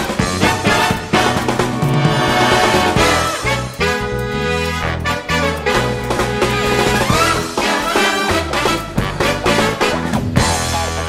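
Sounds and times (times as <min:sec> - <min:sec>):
upbeat swing music with brass: 0:00.0 - 0:11.0.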